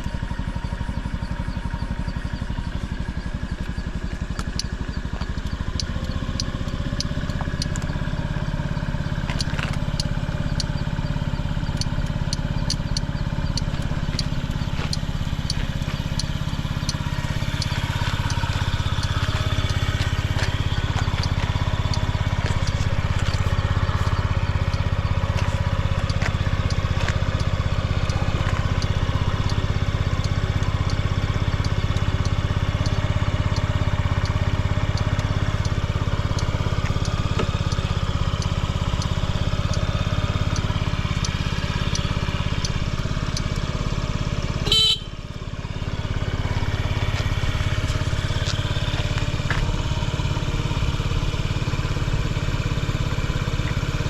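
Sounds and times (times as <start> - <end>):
scooter engine idling: 0.0 - 54.0.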